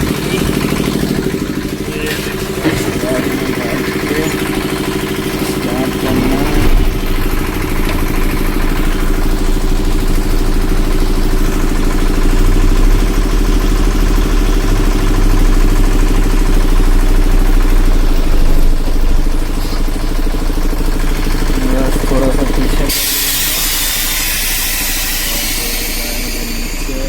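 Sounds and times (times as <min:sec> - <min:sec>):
truck engine running at low revs: 0:00.0 - 0:27.0.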